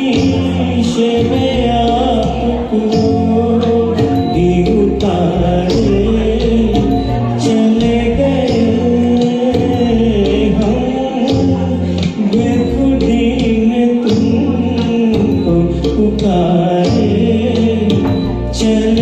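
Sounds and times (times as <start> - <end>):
ghazal music with light percussion: 0.0 - 19.0.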